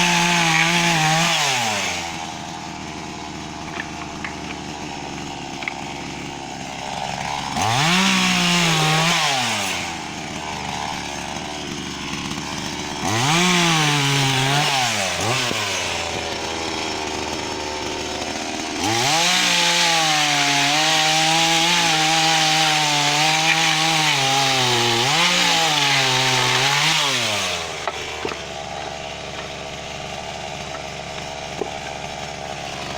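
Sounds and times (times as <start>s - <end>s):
chainsaw idling and revving: 0.0s - 32.9s.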